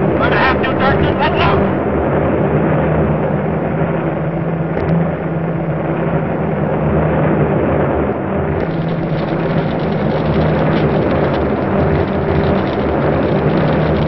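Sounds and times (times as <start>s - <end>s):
engine drone: 0.0s - 14.0s
low hum: 0.0s - 14.0s.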